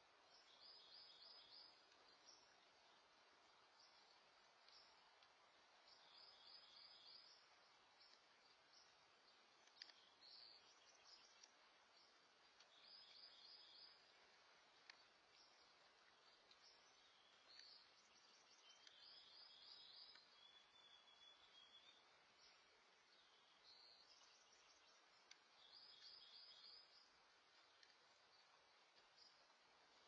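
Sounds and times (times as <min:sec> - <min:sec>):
faint steady hiss: 0:00.0 - 0:30.0
faint clicks: 0:01.5 - 0:02.7, 0:03.8 - 0:23.2, 0:23.8 - 0:30.0.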